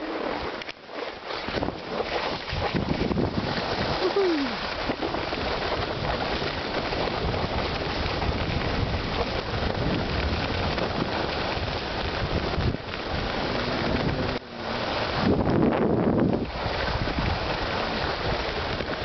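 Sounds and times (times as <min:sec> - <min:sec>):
skis scraping on snow: 0:00.0 - 0:19.0
wind on microphone: 0:00.0 - 0:19.0.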